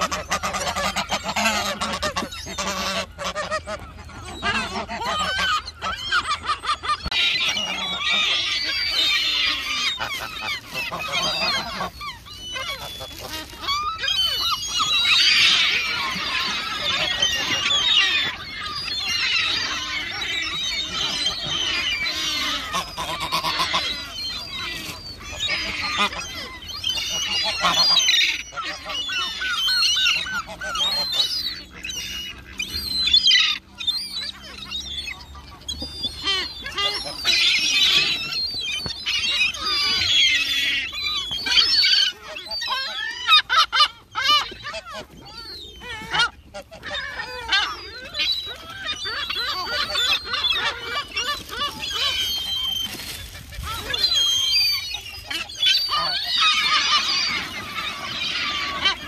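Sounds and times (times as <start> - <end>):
gulls and geese calling: 0.0 - 59.0.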